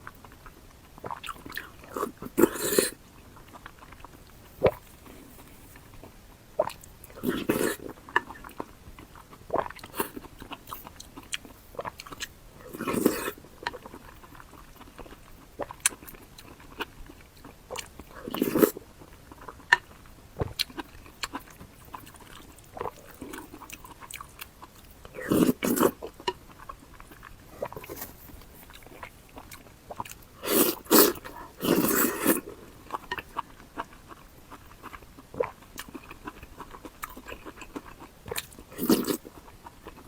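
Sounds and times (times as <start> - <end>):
chewing and biting food: 0.0 - 40.0.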